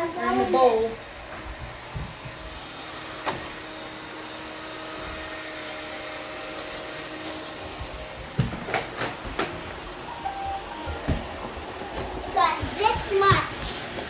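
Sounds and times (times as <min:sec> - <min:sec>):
robot vacuum whirring: 0:00.0 - 0:14.0.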